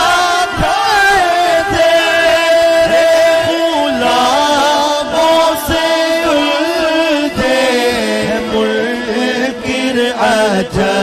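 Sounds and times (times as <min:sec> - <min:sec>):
man singing over loudspeaker: 0:00.0 - 0:11.0.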